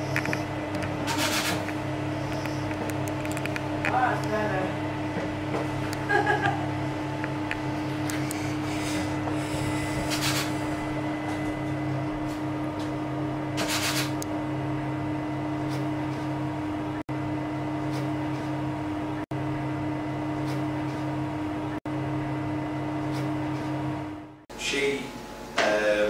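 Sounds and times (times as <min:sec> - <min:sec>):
electrical machine hum: 0:00.0 - 0:26.0.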